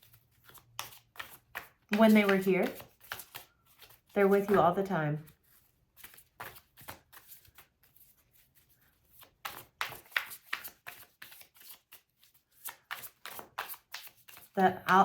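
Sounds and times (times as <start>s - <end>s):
cards being shuffled: 0.0s - 15.0s.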